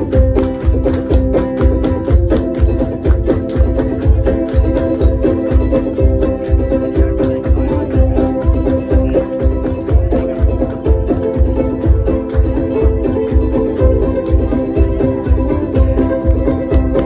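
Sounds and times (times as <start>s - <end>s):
low drum beat: 0.0s - 17.0s
stringed instruments: 0.0s - 17.0s.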